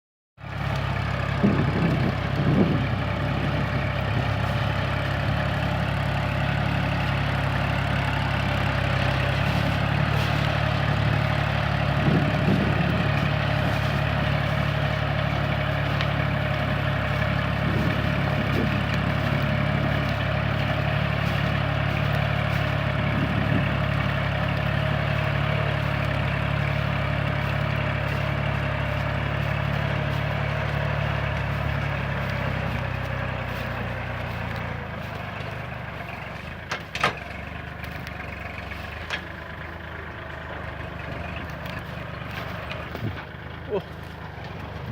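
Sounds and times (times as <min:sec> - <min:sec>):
tractor diesel engine running: 0:00.4 - 0:44.9.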